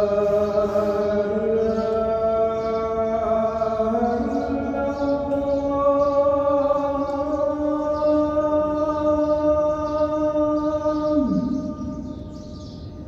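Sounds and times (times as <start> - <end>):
man chanting call to prayer: 0.0 - 12.6.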